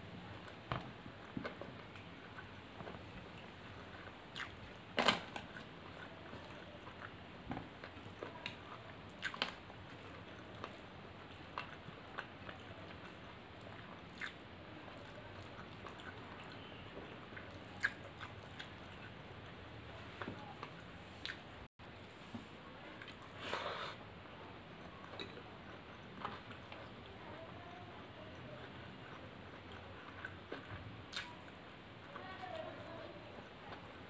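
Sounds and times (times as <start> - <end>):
wet chewing: 0.3 - 21.6, 24.7 - 32.6.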